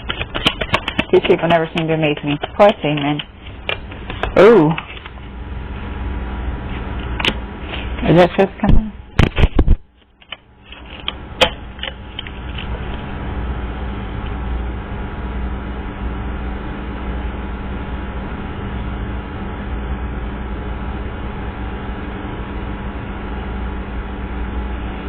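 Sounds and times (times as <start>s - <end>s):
mechanical hum and hiss: 0.0s - 25.0s.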